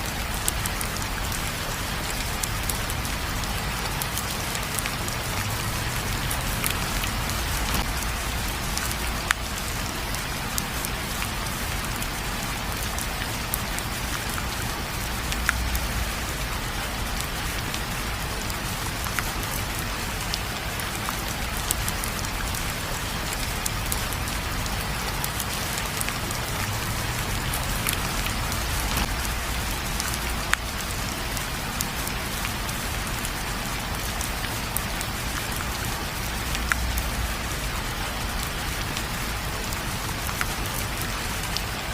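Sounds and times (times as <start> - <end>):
rain falling on a surface: 0.0 - 41.9.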